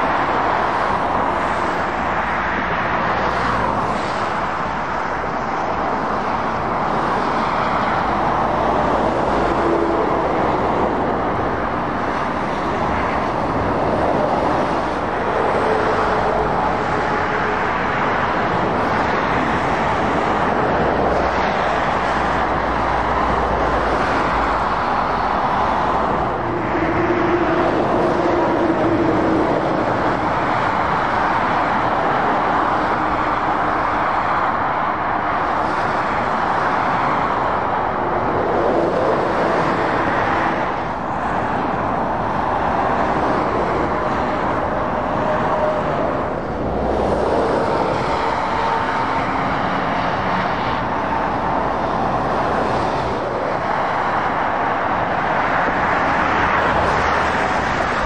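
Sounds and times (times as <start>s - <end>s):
diesel trucks humming: 0.0s - 58.0s
tyre noise of passing cars: 0.0s - 58.0s.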